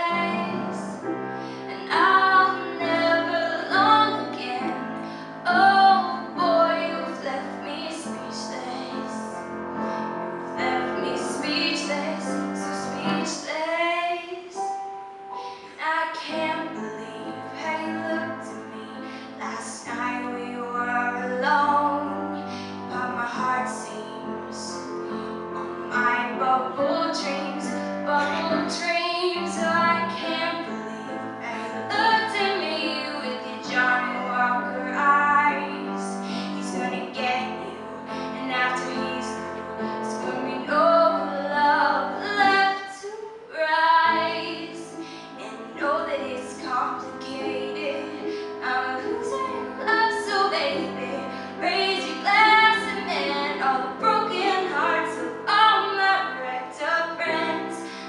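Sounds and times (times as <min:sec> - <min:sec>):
woman singing: 0:00.0 - 0:09.4, 0:10.5 - 0:58.0
piano accompaniment: 0:00.0 - 0:58.0.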